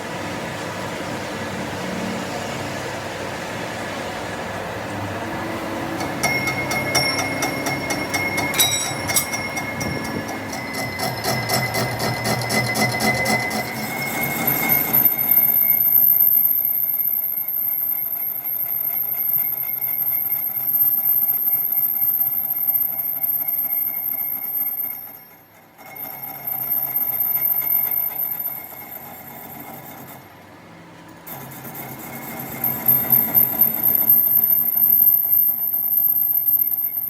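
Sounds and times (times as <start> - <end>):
workshop machine humming and whining: 0.0 - 37.0.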